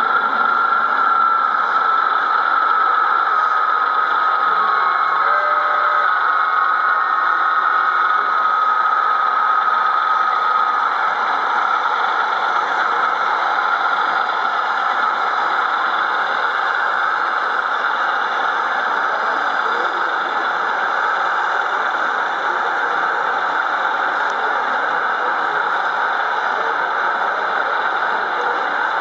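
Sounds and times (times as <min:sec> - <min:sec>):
model locomotive engine hum: 0:00.0 - 0:29.0
model locomotive whine: 0:00.0 - 0:29.0.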